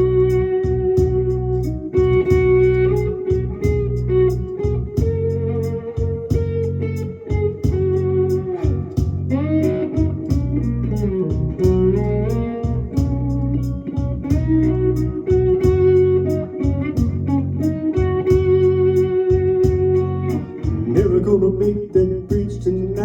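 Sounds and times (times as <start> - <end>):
steady drum beat: 0.0 - 1.4, 2.0 - 21.4, 22.0 - 22.7
blues guitar melody with slides: 0.0 - 23.0
low bass notes: 0.0 - 23.0.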